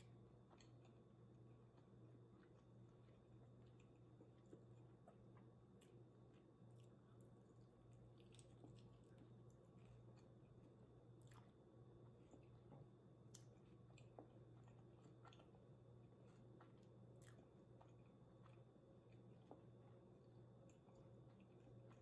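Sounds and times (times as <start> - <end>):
close-up chewing of food: 0.0 - 22.0
steady low hum: 0.0 - 22.0.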